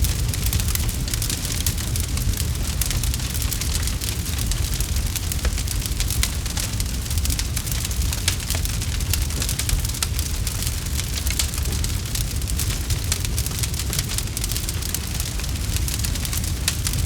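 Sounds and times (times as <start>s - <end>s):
low rumble of fire: 0.0s - 17.0s.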